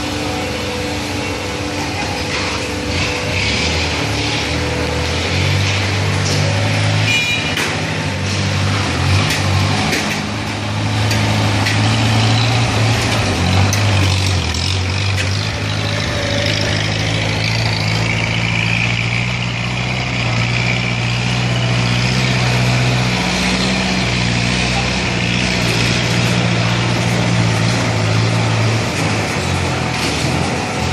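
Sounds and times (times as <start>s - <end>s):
hydraulic machine hum: 0.0s - 30.9s.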